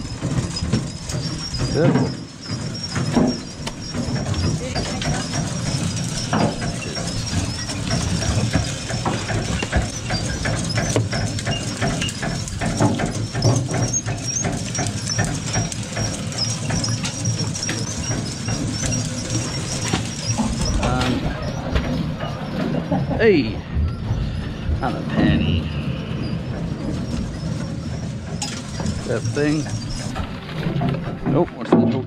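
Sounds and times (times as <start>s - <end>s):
knocks and clatter of gear: 0.0s - 32.0s
low machinery hum: 0.0s - 32.0s.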